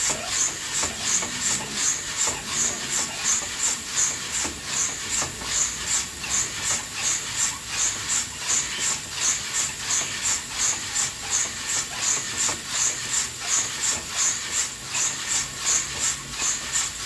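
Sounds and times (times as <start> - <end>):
coffee beans tumbling in roaster: 0.0 - 17.0.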